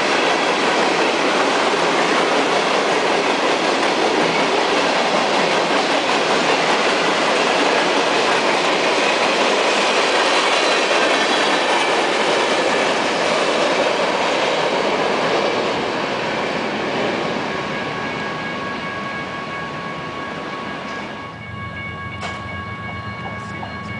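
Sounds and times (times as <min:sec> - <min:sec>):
train wheels rolling on rail: 0:00.0 - 0:23.9.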